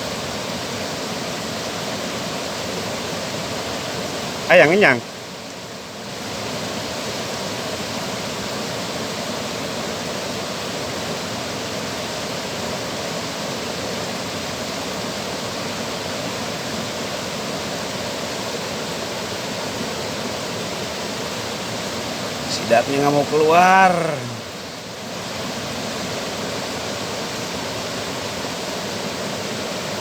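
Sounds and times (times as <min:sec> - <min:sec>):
fast-flowing water rushing: 0:00.0 - 0:30.0.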